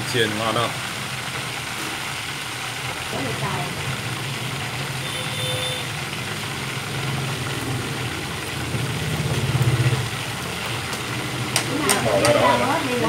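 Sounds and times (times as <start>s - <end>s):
chicken deep-frying in hot oil: 0.0s - 13.0s.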